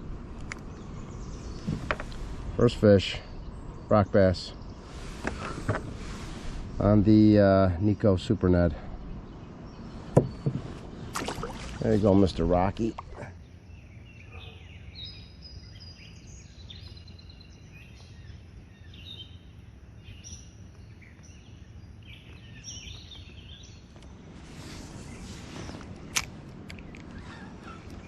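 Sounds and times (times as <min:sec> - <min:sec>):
low outdoor rumble: 0:00.0 - 0:28.0
songbirds chirping: 0:00.0 - 0:28.0.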